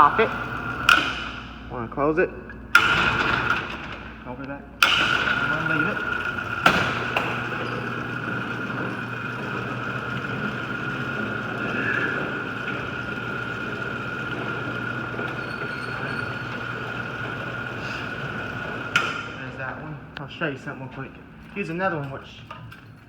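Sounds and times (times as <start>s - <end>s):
garage door opener motor whining: 0.0s - 23.0s.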